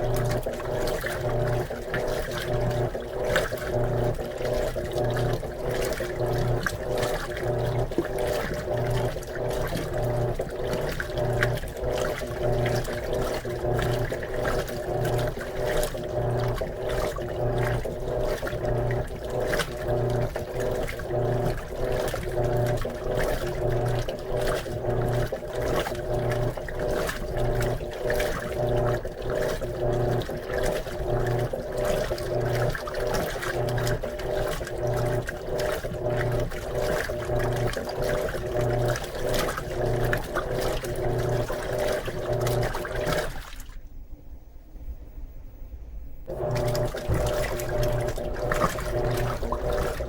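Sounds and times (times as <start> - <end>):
washing machine motor agitating: 0.0 - 43.8, 46.2 - 50.0
water sloshing in tub: 0.0 - 44.1, 46.2 - 50.0.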